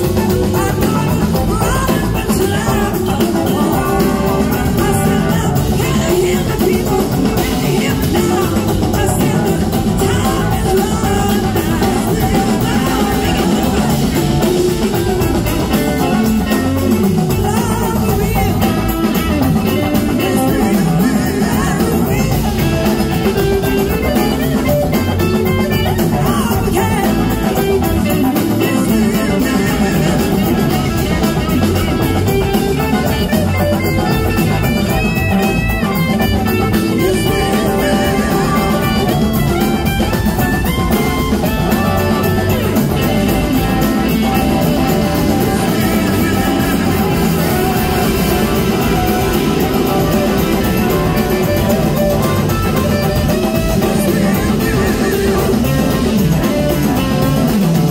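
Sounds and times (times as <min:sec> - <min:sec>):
blues-rock band playing: 0:00.0 - 0:57.9.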